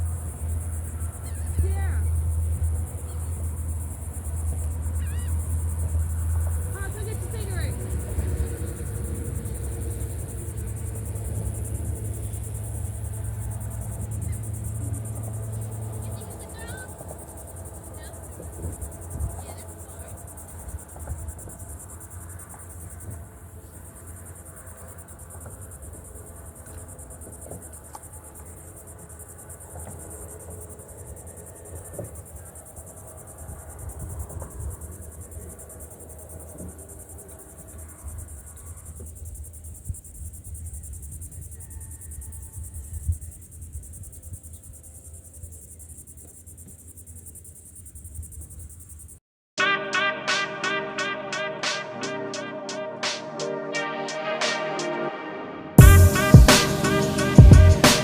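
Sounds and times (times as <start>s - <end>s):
high-pitched insect chorus: 0.0s - 49.2s.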